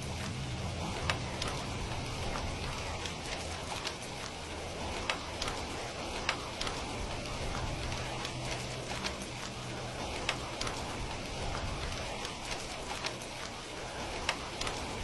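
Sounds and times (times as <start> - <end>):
log fire crackling and popping: 0.0 - 15.0
steady rain: 0.0 - 15.0.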